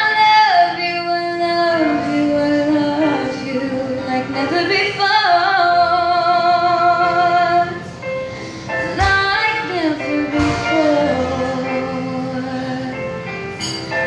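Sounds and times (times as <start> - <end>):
music accompaniment: 0.0 - 14.0.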